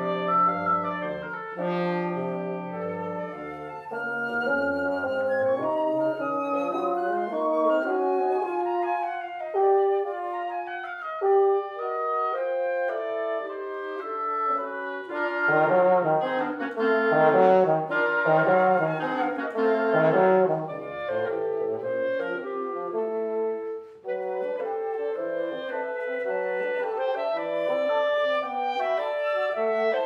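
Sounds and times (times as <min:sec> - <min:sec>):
wind quintet playing: 0:00.0 - 0:30.0.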